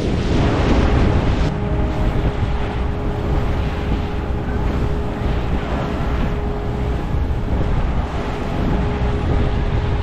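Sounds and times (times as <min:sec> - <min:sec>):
boat engine: 0:00.0 - 0:10.0
thin steady hum: 0:00.0 - 0:10.0
water rushing past hull: 0:00.0 - 0:10.0
wind buffeting microphone: 0:00.0 - 0:10.0.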